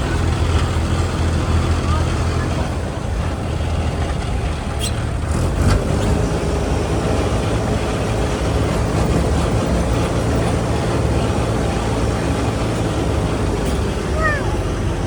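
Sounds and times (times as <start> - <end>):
road and rattle noise: 0.0 - 15.0
tractor engine droning: 0.0 - 15.0.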